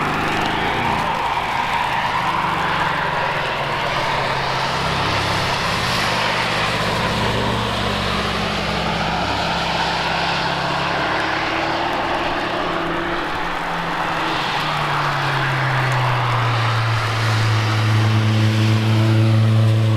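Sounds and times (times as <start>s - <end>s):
race car engines passing: 0.0s - 19.9s.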